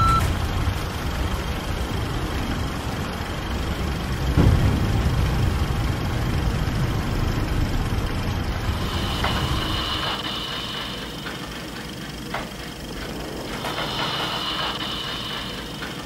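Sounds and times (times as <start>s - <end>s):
low engine-like rumble: 0.0s - 16.0s.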